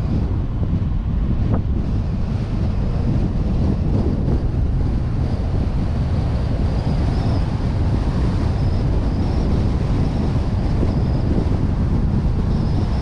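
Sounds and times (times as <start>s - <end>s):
road and engine noise: 0.0s - 13.0s
wind rushing over microphone: 0.0s - 13.0s
faint high whine: 1.1s - 13.0s.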